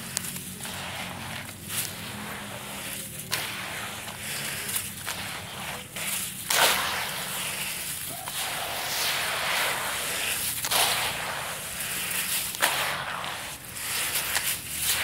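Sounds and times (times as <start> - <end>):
dirt pouring into water: 0.2 - 15.0.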